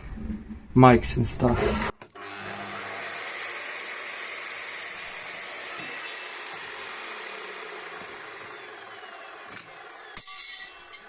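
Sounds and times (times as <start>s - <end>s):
electric drill boring through steel: 1.7s - 11.0s.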